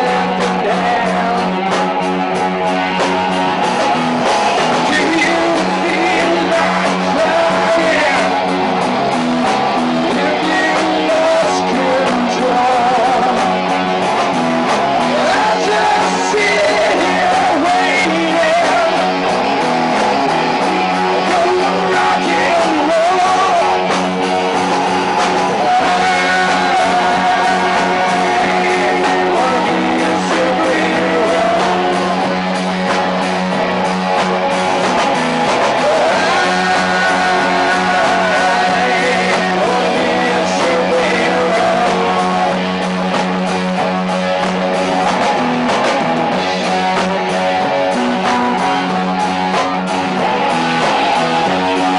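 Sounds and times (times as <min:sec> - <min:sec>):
person singing lead vocal: 0:00.0 - 0:51.9
rock band playing: 0:00.0 - 0:51.9.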